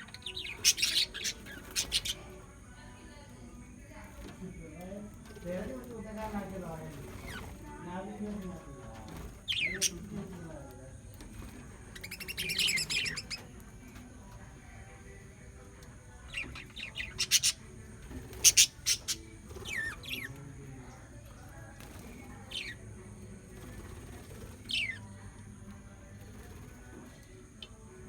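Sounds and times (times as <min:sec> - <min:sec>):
small birds chirping and calling: 0:00.0 - 0:28.0.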